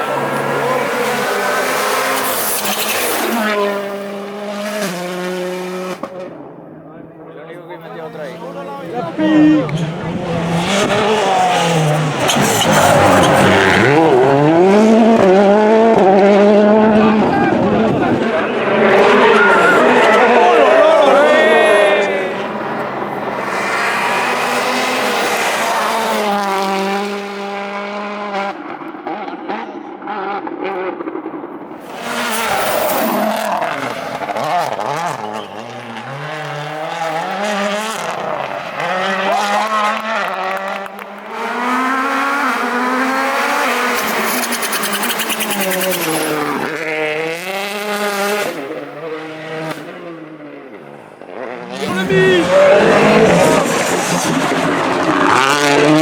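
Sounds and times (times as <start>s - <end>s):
rally car engines at full throttle: 0.0s - 56.0s.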